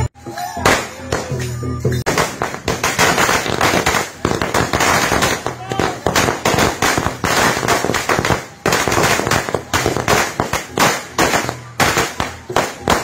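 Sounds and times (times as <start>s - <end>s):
firecrackers cracking: 0.0s - 13.0s.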